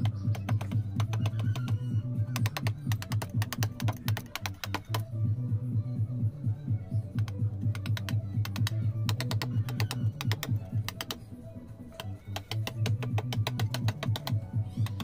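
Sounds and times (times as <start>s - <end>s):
mallet tapping chisel into stone: 0.0s - 5.0s, 7.2s - 11.2s, 12.0s - 15.0s.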